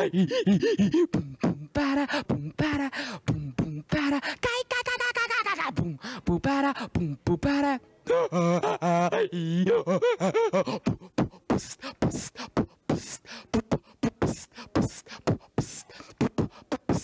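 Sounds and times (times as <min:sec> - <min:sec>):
man beatboxing: 0:00.0 - 0:17.0
wavering sung vocal tone: 0:00.0 - 0:17.0.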